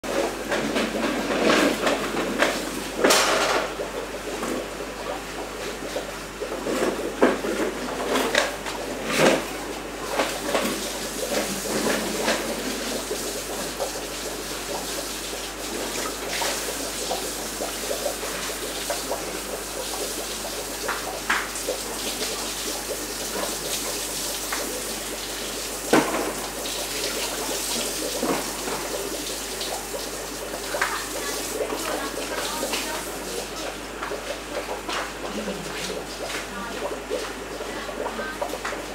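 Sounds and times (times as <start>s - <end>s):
aquarium water running and splashing: 0.0s - 38.9s.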